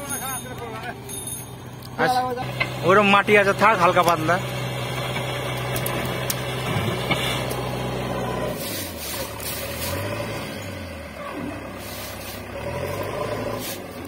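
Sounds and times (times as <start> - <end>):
backhoe diesel engine working: 0.0 - 14.0.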